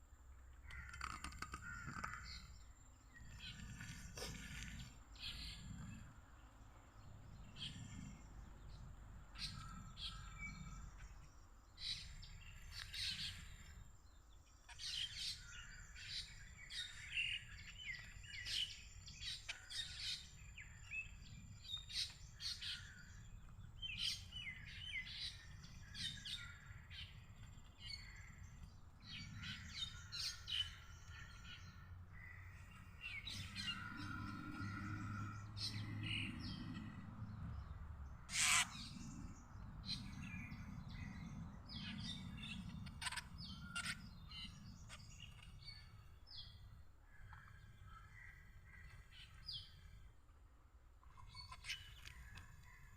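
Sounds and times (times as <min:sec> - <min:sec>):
small birds chirping: 0:00.4 - 0:50.2, 0:50.9 - 0:52.9.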